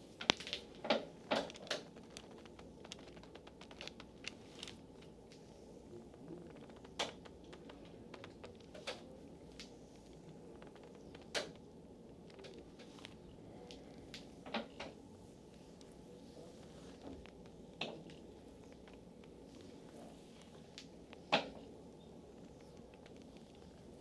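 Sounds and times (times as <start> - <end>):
faint clicks and taps: 0.0 - 24.0
hands moving over skin: 0.0 - 24.0.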